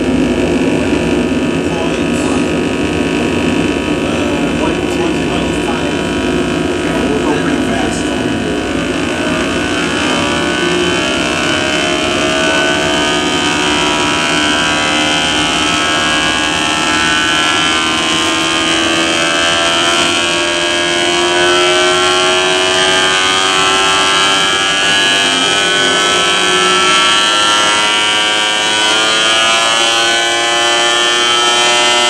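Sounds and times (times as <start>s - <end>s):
electric motor whining: 0.0s - 32.0s.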